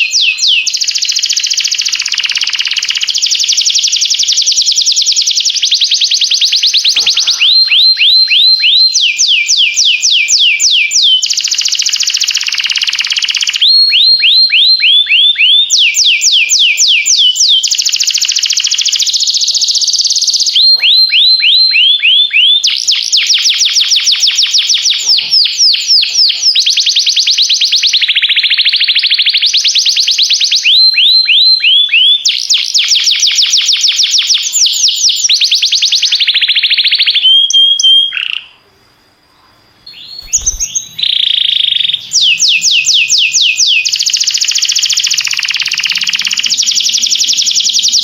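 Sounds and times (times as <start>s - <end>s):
canary singing trilled song: 0.0s - 38.6s, 39.8s - 48.0s.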